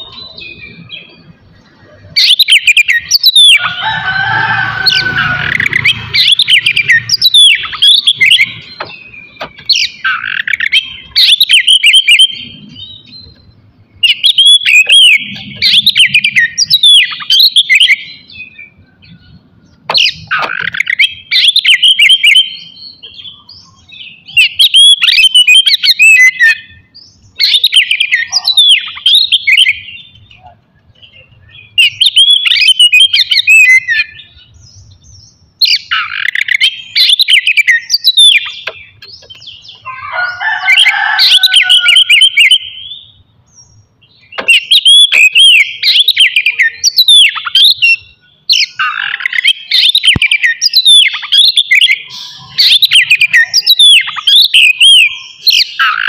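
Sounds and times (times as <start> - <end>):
rough noisy bird call: 0.0 - 56.0
bird singing whistled scratchy notes: 2.0 - 30.4, 31.1 - 56.0.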